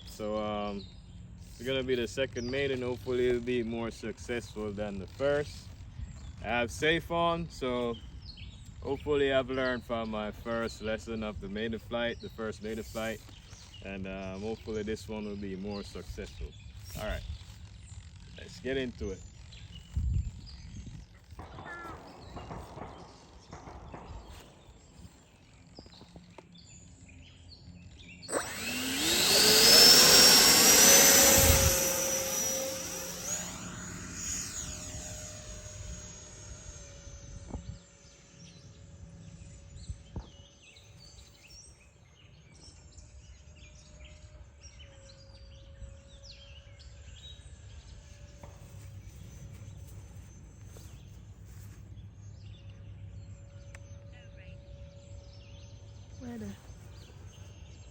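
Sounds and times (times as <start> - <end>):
model jet fans whining: 0.0 - 57.9.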